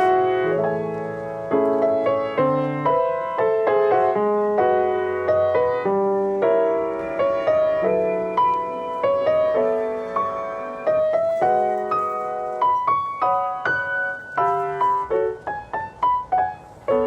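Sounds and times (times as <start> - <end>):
gentle solo piano piece: 0.0 - 17.0.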